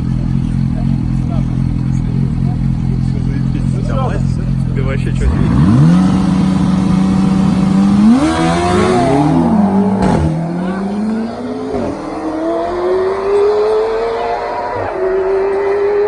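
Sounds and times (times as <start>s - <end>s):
car engine accelerating: 0.0s - 16.0s
motorcycle engine accelerating: 0.0s - 16.0s.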